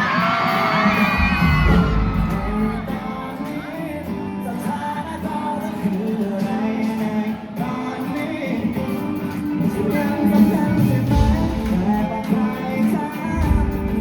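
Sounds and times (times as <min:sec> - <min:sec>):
crowd screaming and whooping: 0:00.0 - 0:14.0
live pop-rock band: 0:00.0 - 0:14.0.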